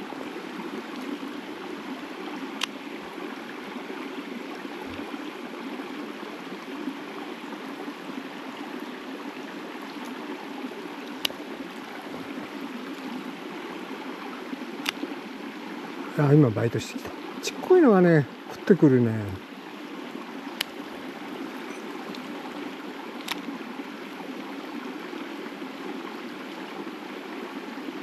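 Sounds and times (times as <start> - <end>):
mountain stream flowing: 0.0 - 28.0.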